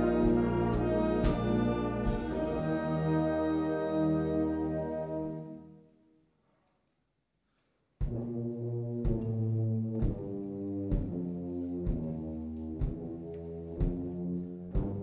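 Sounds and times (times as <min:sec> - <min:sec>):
wind band brass chords: 0:00.0 - 0:06.0, 0:08.0 - 0:15.0.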